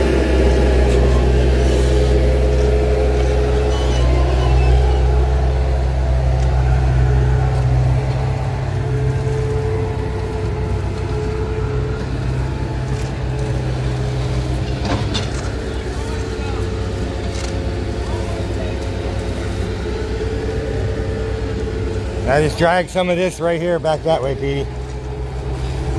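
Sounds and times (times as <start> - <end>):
engine rumbling: 0.0 - 25.9.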